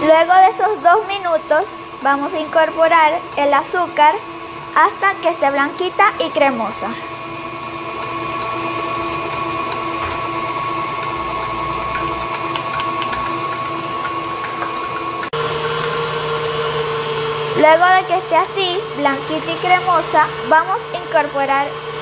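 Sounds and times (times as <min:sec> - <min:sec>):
stand mixer motor running: 0:00.0 - 0:22.0.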